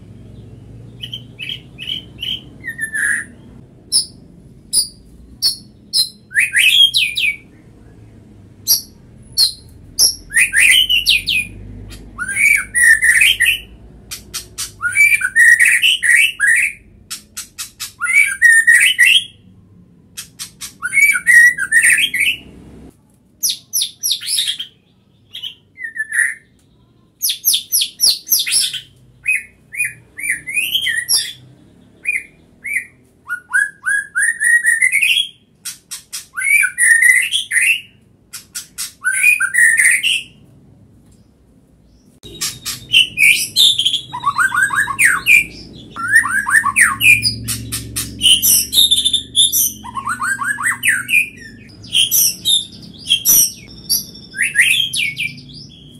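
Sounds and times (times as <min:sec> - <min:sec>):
songbird singing: 0:00.0 - 0:22.8, 0:23.4 - 0:35.5, 0:41.0 - 0:55.9.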